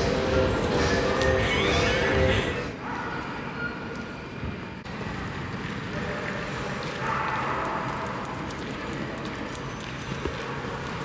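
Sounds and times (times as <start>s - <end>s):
indoor hall din: 0.0s - 11.0s.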